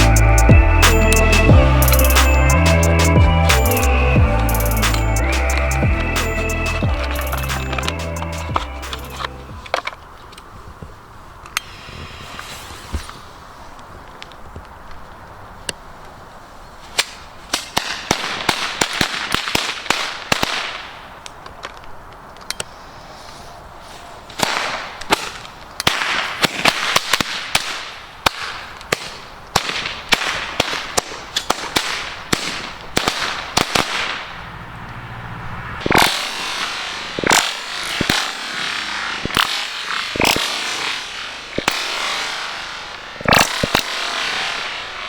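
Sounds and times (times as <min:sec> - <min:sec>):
firecrackers cracking: 0:00.0 - 0:16.1, 0:16.9 - 0:22.3, 0:24.3 - 0:34.4, 0:35.8 - 0:45.0.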